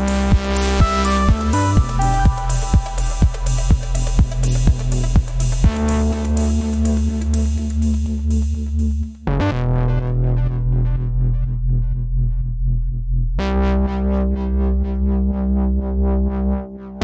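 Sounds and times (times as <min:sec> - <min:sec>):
electronic music: 0:00.0 - 0:17.0.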